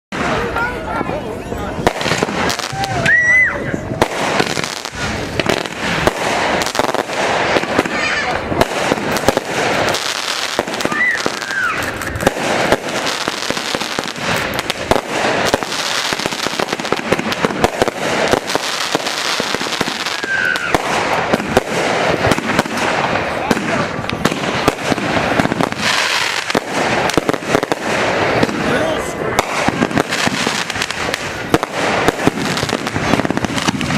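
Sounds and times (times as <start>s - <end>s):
fireworks crackling and banging: 0.1s - 33.9s.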